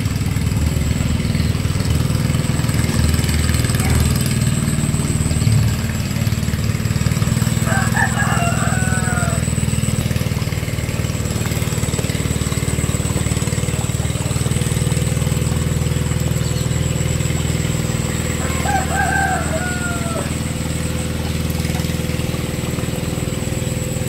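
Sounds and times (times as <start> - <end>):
engine chugging: 0.0 - 24.0.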